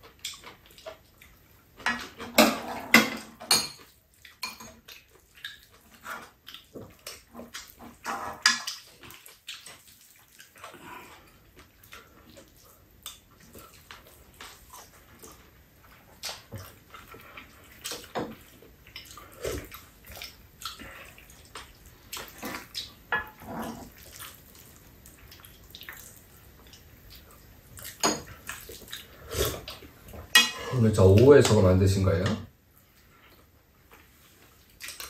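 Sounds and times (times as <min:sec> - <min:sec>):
wet chewing and lip-smacking: 0:00.0 - 0:01.8, 0:03.9 - 0:08.0, 0:08.6 - 0:30.3, 0:32.9 - 0:35.0.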